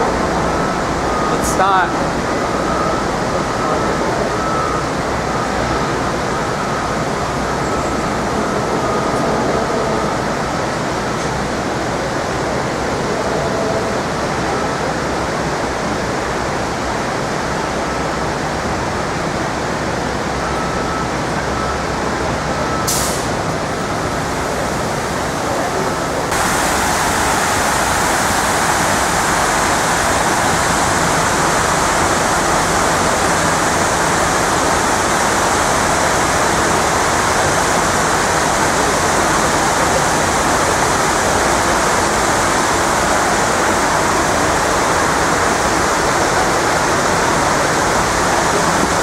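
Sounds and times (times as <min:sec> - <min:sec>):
water cascading down walls: 0:00.0 - 0:49.0.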